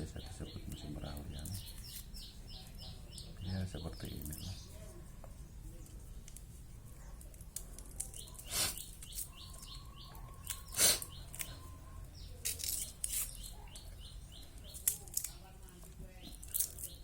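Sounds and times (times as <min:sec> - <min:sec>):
bird chirping: 0:00.0 - 0:05.0, 0:07.0 - 0:15.5, 0:16.1 - 0:17.0.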